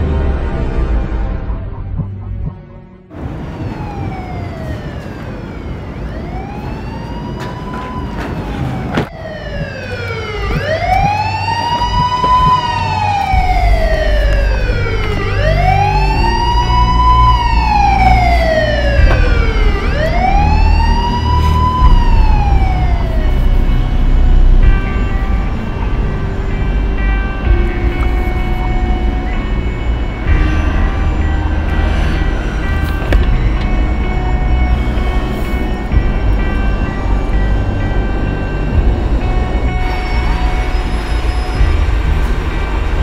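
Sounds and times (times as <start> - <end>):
low rumble: 0.0 - 3.3, 10.5 - 43.0
emergency siren wailing: 1.0 - 43.0.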